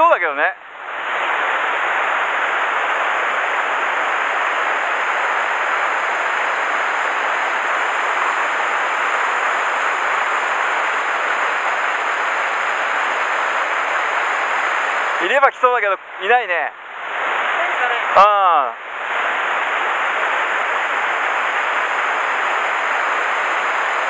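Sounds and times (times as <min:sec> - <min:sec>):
mountain stream rushing over rapids: 0:00.2 - 0:24.0.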